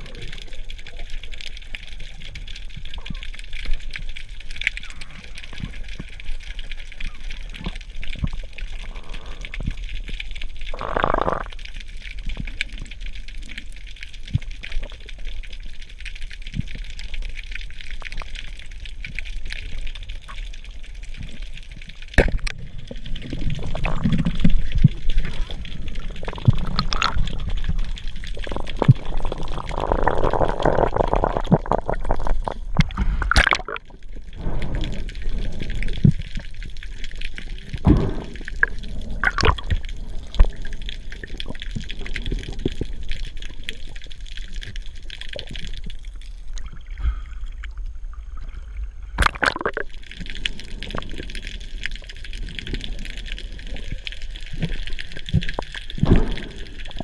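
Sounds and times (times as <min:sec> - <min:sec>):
water sloshing and bubbling: 0:00.0 - 0:57.0.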